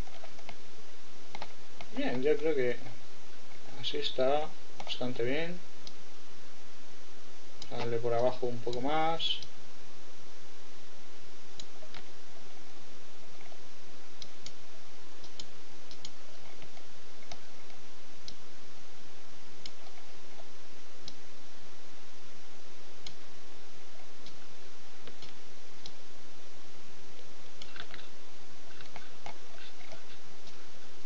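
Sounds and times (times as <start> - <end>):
faint constant hum: 0.0 - 31.0
microphone hiss: 0.0 - 31.0.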